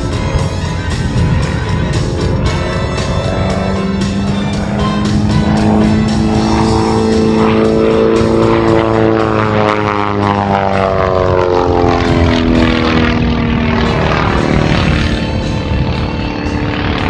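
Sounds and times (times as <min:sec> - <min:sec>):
propeller plane passing by: 0:00.0 - 0:17.0.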